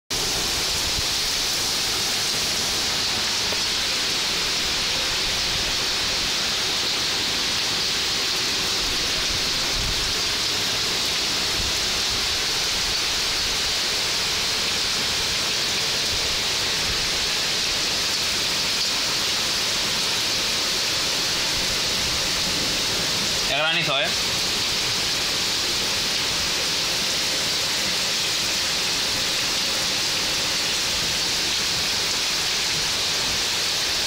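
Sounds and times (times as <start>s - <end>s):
heavy rain falling: 0.1s - 34.0s.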